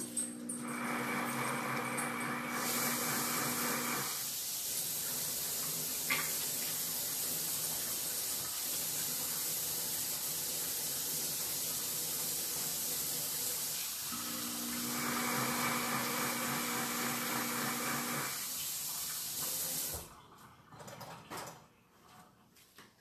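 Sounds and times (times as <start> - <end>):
tap running water: 0.0 - 21.6.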